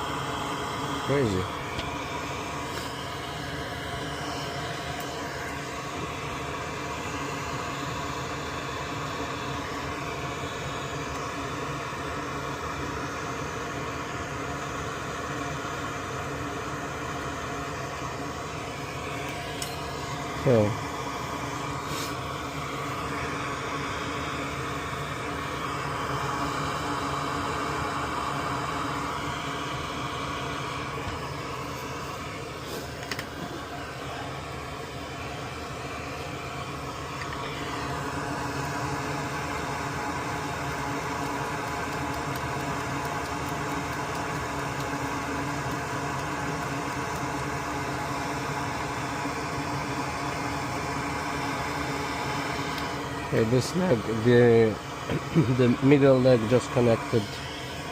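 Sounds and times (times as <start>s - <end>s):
small fan humming: 0.0s - 57.9s.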